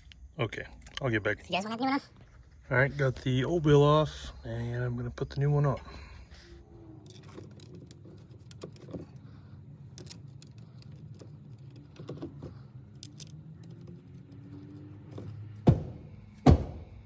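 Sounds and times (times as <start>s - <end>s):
steady low hum: 2.1s - 17.0s.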